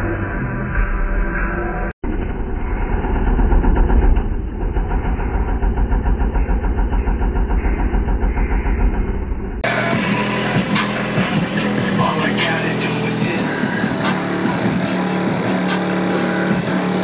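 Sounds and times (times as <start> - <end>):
deep pulsing bass note: 0.0 - 17.0.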